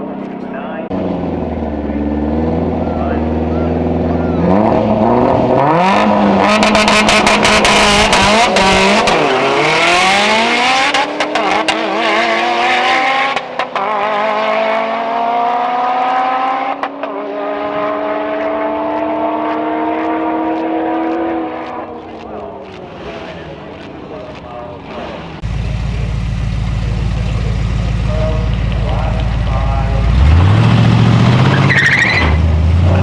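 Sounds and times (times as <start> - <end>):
drag racing engine accelerating: 0.0 - 33.0.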